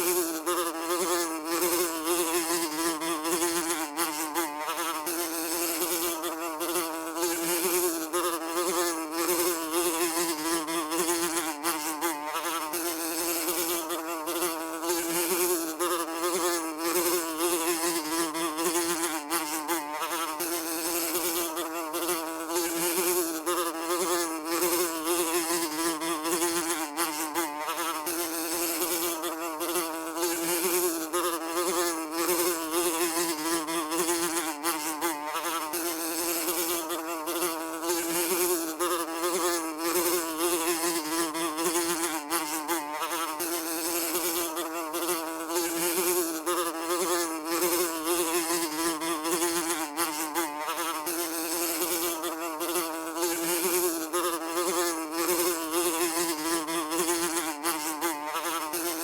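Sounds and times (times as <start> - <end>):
fly wings buzzing: 0.0 - 59.0.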